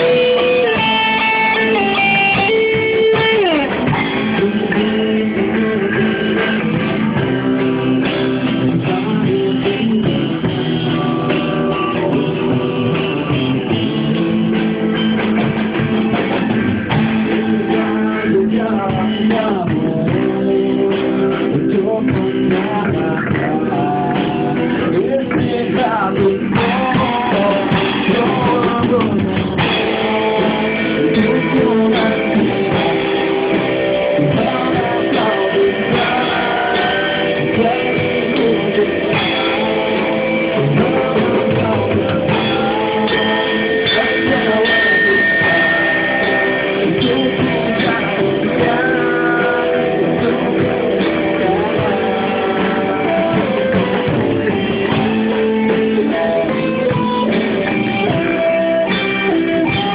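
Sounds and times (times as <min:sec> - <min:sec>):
person singing: 0:00.0 - 0:16.5, 0:17.2 - 0:59.9
drum kit with cymbals: 0:00.0 - 0:59.9
electric bass: 0:00.0 - 0:59.9
electric guitar: 0:00.0 - 0:59.9.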